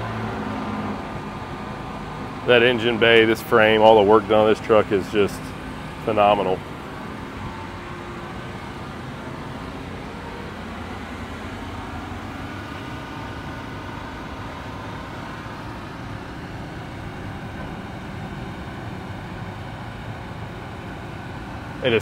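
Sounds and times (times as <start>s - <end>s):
rumble and hum of vehicles: 0.0s - 22.0s.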